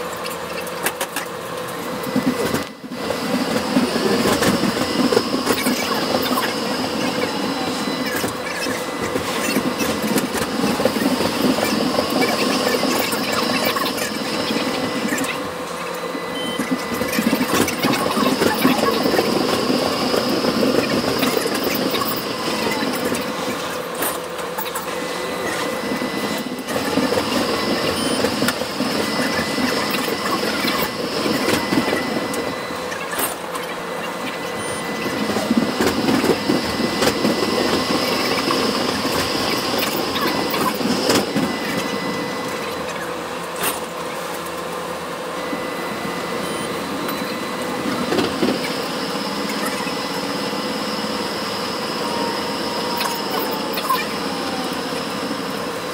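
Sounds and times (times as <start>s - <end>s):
constant hum: 0.0s - 55.9s
tram wheels on rails: 0.0s - 55.9s.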